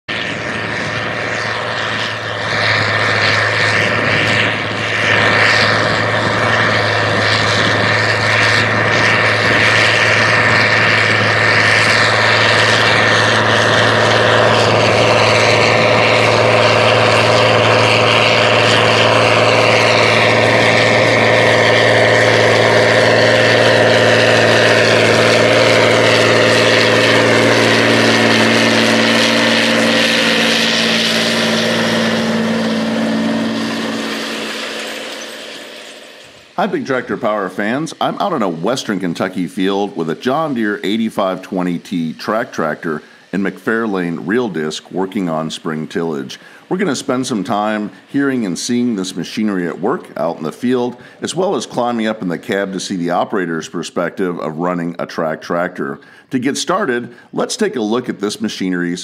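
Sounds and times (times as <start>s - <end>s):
tractor diesel engine drone: 0.0s - 59.0s.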